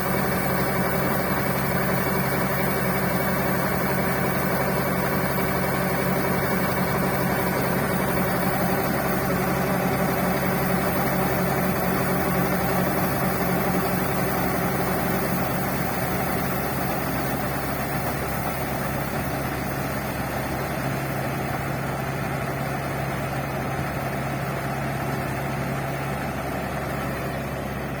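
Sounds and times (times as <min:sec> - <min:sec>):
combine harvester engine droning: 0:00.0 - 0:28.0.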